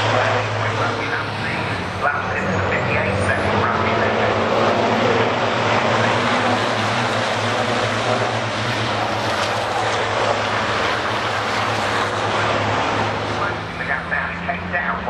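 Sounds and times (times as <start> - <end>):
truck diesel engines racing: 0.0 - 15.0.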